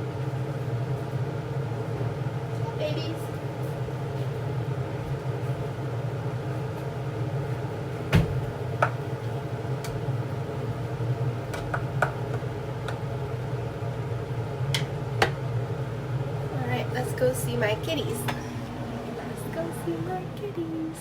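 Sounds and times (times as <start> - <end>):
kitchen appliance humming: 0.0 - 21.0.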